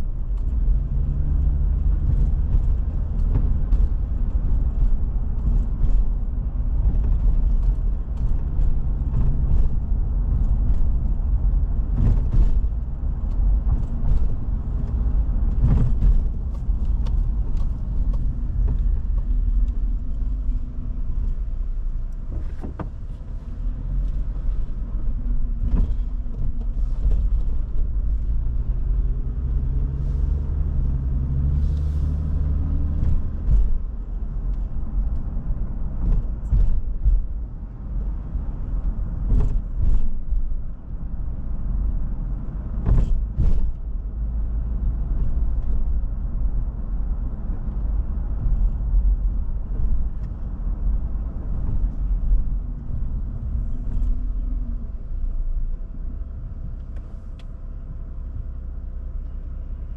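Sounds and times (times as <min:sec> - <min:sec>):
car engine: 0:00.0 - 0:59.9
road rumble: 0:00.0 - 0:59.9.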